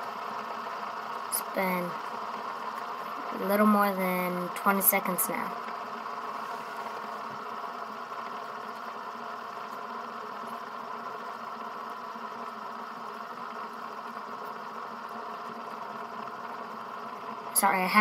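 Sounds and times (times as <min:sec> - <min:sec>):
fidget spinner whirring: 0:00.0 - 0:18.0.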